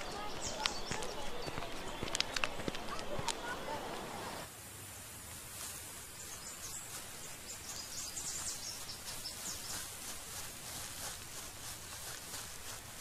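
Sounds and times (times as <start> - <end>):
faint outdoor hush: 0.0 - 13.0.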